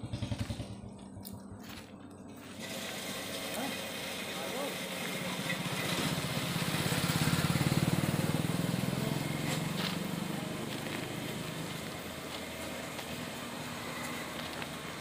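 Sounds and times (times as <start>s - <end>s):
motorcycle engine passing by: 0.0s - 15.0s.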